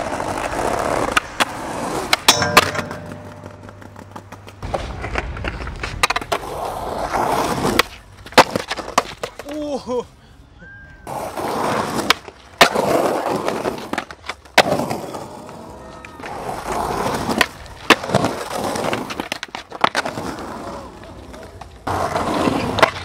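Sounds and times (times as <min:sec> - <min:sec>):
skateboard clacking on ground: 0:00.0 - 0:09.7, 0:11.8 - 0:23.0
skateboard wheels rolling on pavement: 0:00.0 - 0:10.0, 0:11.0 - 0:23.0.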